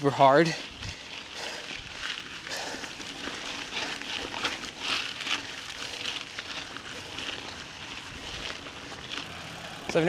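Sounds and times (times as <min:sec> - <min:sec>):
bike clicks and rattles: 0:00.0 - 0:10.0
tyres crunching on loose ground: 0:00.0 - 0:10.0.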